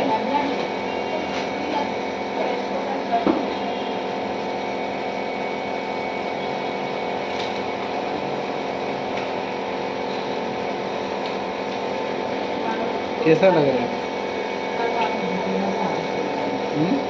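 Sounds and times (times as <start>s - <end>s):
nebulizer compressor humming: 0.0s - 17.0s.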